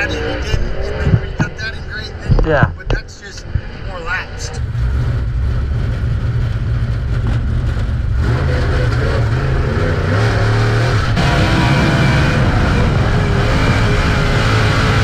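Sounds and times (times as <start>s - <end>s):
race car engine: 0.0s - 15.0s.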